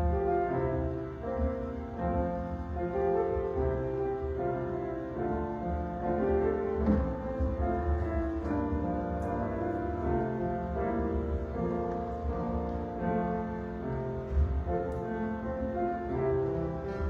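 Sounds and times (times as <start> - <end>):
slow piano instrumental music: 0.0 - 17.0.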